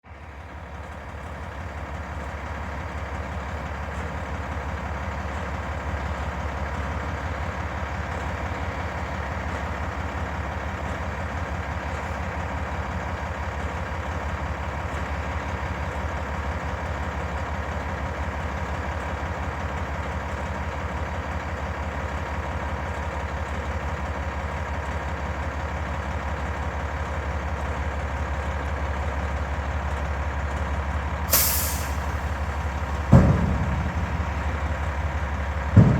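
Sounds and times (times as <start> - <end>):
diesel truck engine idling: 0.0 - 35.9.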